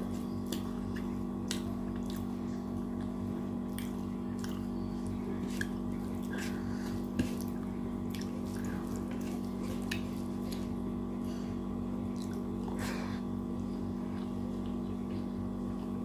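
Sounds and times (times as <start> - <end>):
steady low hum: 0.0 - 16.0
wet chewing sounds: 0.0 - 16.0.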